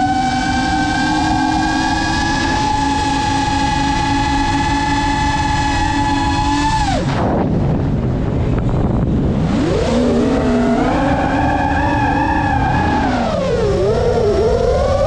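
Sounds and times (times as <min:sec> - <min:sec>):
rushing air noise: 0:00.0 - 0:13.8
drone motors whining: 0:00.0 - 0:15.0.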